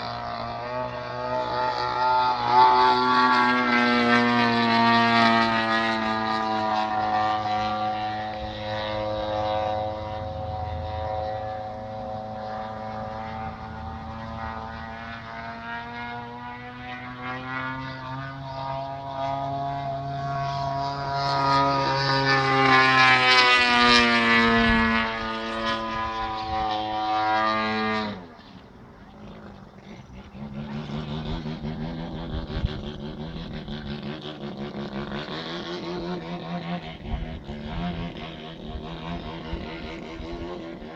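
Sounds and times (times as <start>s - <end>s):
model airplane engine buzzing: 0.0s - 40.9s.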